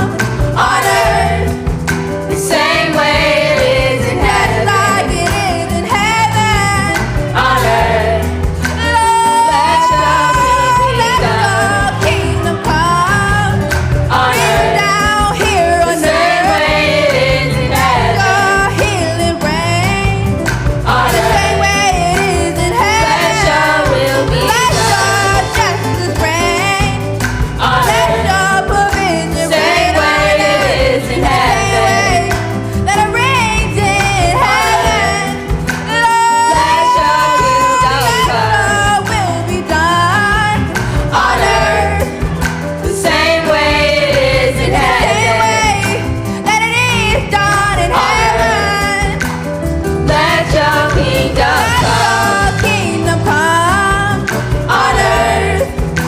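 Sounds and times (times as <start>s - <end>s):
band accompaniment: 0.0s - 56.0s.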